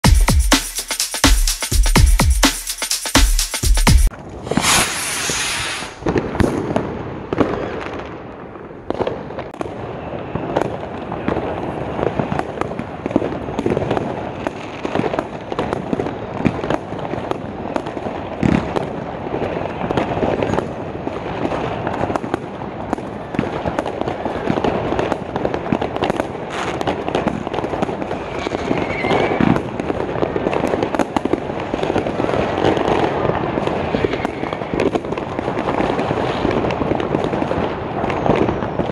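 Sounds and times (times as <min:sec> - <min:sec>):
fireworks bangs and crackling: 0:04.1 - 0:38.9.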